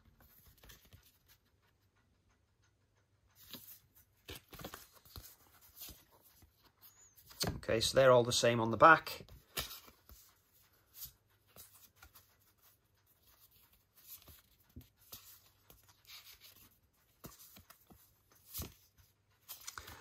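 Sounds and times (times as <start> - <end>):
cardboard cards rustling and tapping: 0.0 - 1.5, 3.4 - 20.0.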